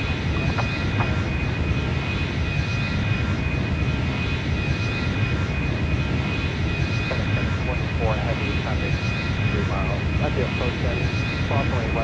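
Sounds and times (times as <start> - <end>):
high engine whine: 0.0 - 12.0
jet engines rumbling: 0.0 - 12.0.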